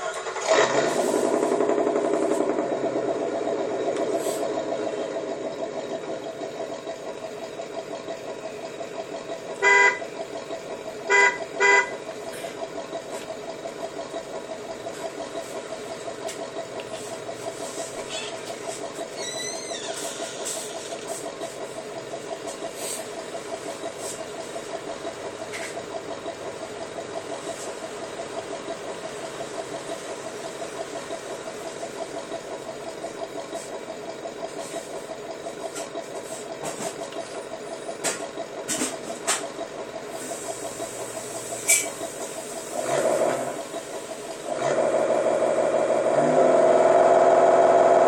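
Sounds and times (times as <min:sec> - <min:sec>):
engine-like idling throb: 0:00.0 - 0:48.0.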